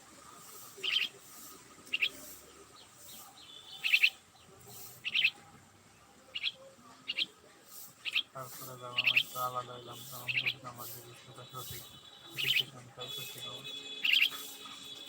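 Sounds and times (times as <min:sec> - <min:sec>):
small bird chirping: 0:00.4 - 0:05.4, 0:06.3 - 0:15.0.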